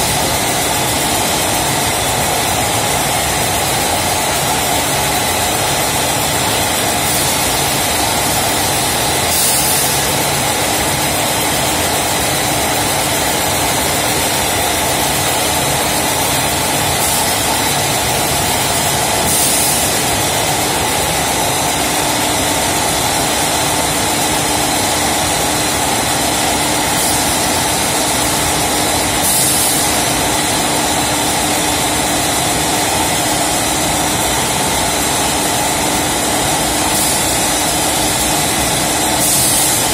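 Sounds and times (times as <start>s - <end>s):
packaging machine humming: 0.0s - 39.9s.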